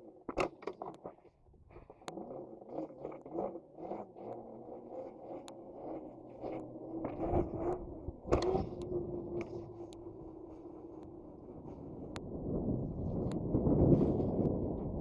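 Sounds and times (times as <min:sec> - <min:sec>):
clicks: 0:00.0 - 0:12.3
dirt bike engine running: 0:02.0 - 0:15.0.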